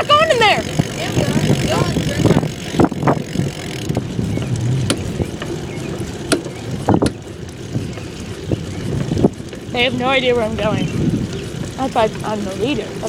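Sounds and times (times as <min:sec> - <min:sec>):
bicycle clicks and rattles: 0:00.0 - 0:13.0
wind rushing over microphone: 0:00.5 - 0:13.0.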